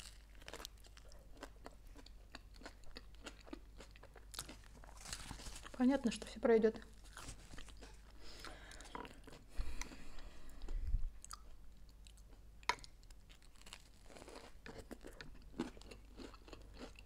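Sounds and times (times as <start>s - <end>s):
chewing and crunching sandwich: 0.0s - 5.8s, 6.9s - 17.0s.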